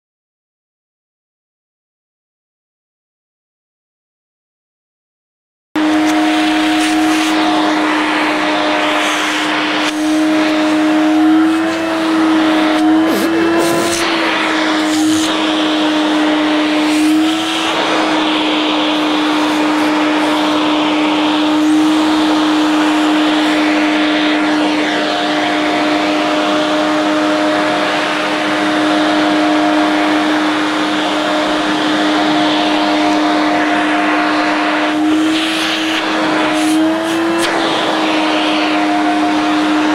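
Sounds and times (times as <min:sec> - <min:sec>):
vacuum cleaner running: 0:05.8 - 0:39.9.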